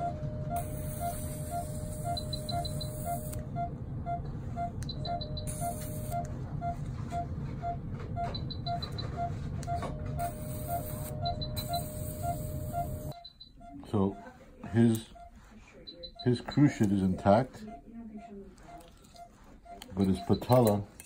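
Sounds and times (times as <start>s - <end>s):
electrocautery pen tone: 0.0s - 20.8s
monitor beeping: 0.0s - 20.9s.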